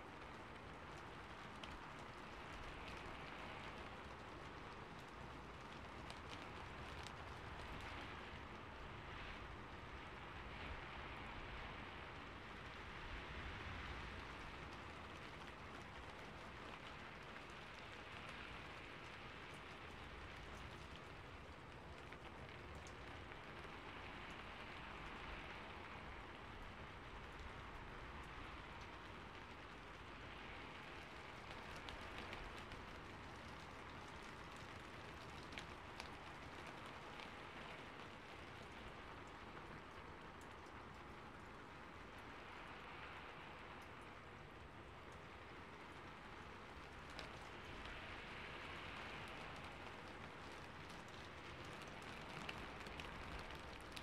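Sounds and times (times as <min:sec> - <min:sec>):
rain hissing: 0:00.0 - 0:54.0
raindrop ticks: 0:00.0 - 0:54.0.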